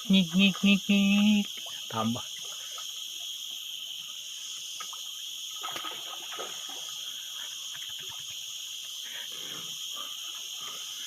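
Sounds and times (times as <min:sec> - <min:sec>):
water splashing and sloshing: 0:00.0 - 0:09.5
high-pitched insect chorus: 0:00.0 - 0:11.0.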